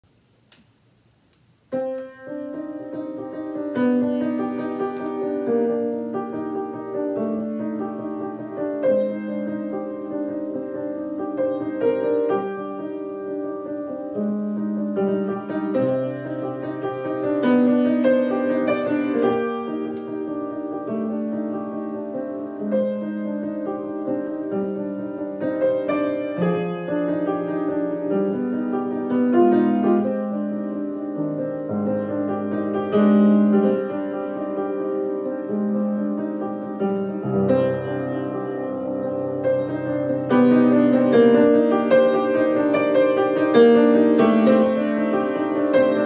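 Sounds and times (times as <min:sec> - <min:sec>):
piano melody with chords: 0:01.7 - 0:46.0.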